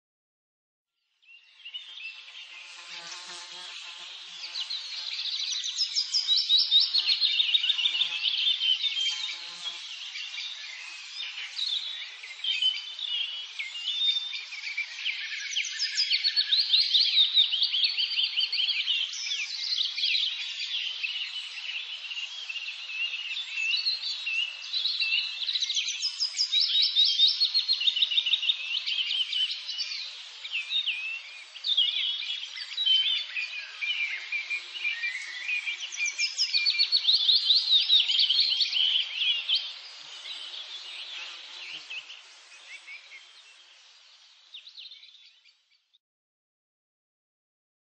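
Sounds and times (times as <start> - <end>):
songbirds chirping and twittering: 1.0 - 46.0.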